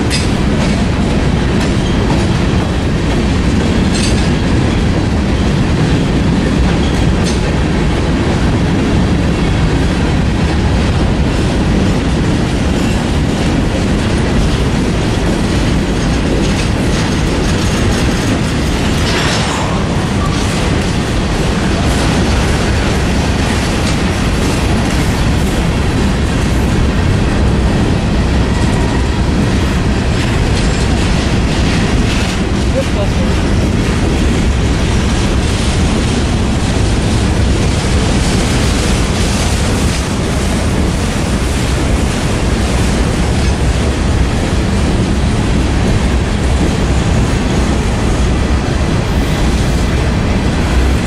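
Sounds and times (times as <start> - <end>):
freight train rolling past: 0.0 - 51.0
steel wheels clicking on rail: 0.0 - 51.0.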